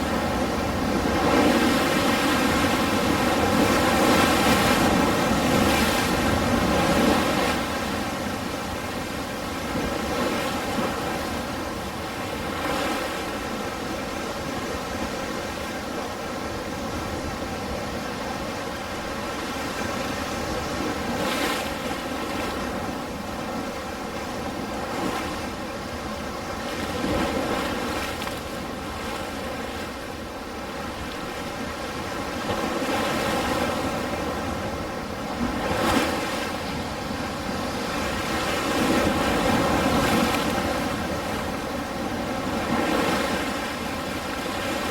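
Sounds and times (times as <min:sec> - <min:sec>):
ocean waves washing: 0:00.0 - 0:44.9.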